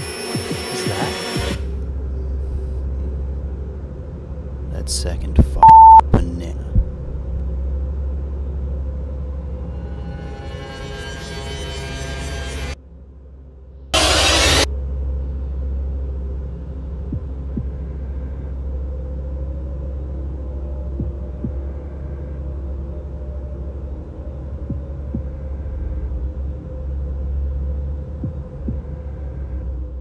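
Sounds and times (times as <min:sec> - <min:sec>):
low rumbling drone: 0:01.6 - 0:30.0.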